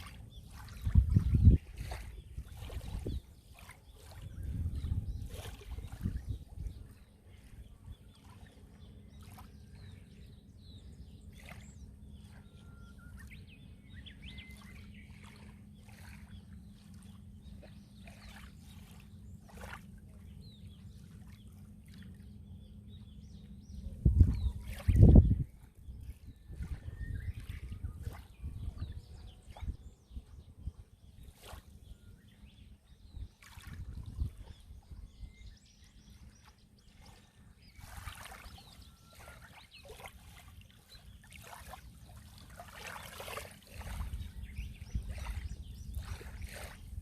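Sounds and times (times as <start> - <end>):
water splashing and trickling: 0.0 - 22.9, 24.1 - 31.8, 32.4 - 35.0, 36.0 - 47.0.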